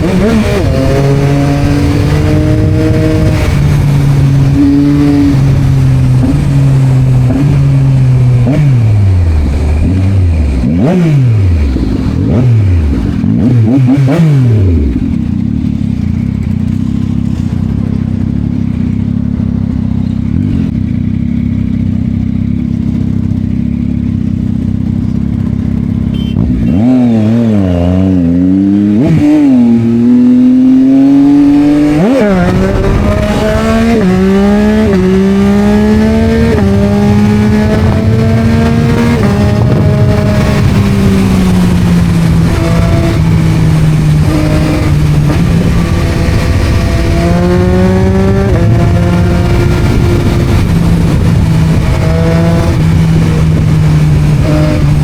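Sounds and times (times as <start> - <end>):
motorcycle engine revving and idling: 0.0 - 55.0.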